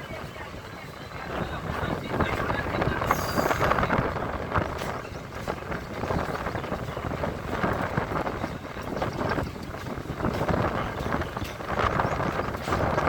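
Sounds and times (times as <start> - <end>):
train rumble: 0.0 - 13.0
wind noise on microphone: 0.0 - 13.0.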